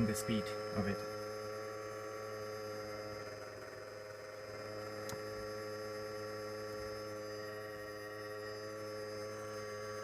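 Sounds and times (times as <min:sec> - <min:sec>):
gimbal motors whining: 0:00.0 - 0:10.0.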